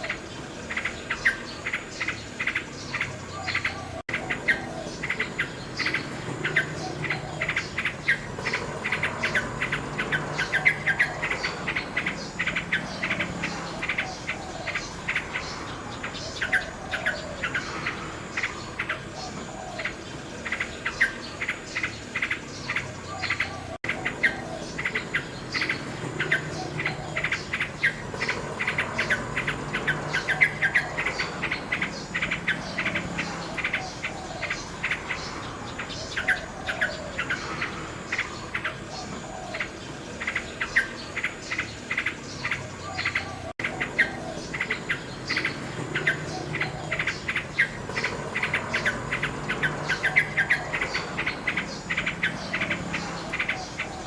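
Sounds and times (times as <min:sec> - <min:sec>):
insects chirping: 0:00.0 - 0:54.0
nightingale singing: 0:00.0 - 0:54.0.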